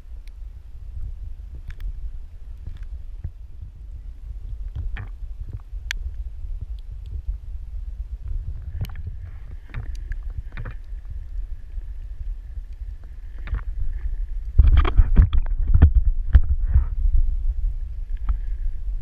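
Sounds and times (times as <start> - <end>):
faint steady whine: 0.0 - 19.0
low underwater rumble: 0.0 - 19.0.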